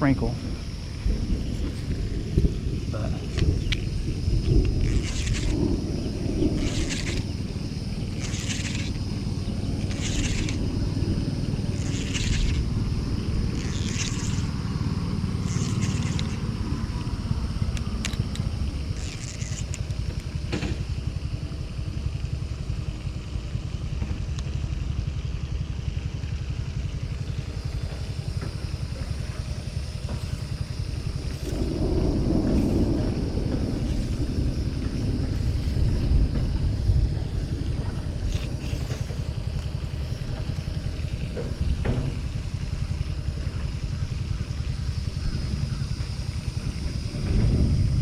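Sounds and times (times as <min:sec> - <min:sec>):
wind buffeting microphone: 0:00.0 - 0:23.5, 0:27.2 - 0:48.0.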